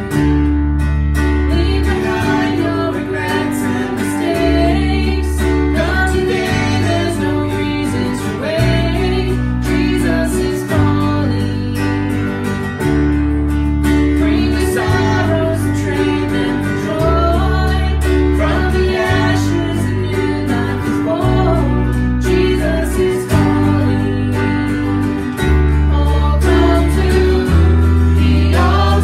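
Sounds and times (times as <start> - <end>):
bass guitar: 0.0 - 29.0
electric keyboard: 0.0 - 29.0
strummed acoustic guitar: 0.0 - 29.0
woman singing: 1.4 - 12.8, 14.0 - 29.0.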